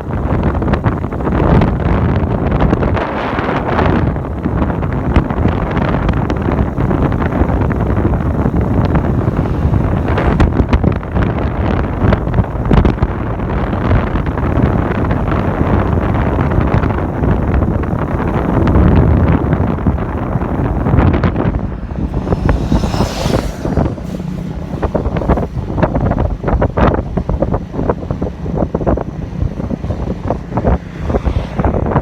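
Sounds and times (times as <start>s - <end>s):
wind blowing across microphone: 0.0s - 32.0s.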